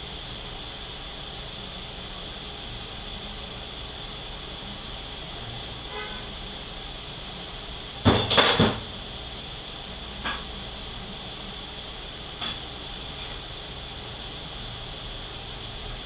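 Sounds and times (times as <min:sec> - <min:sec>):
steady shop hiss: 0:00.0 - 0:16.0.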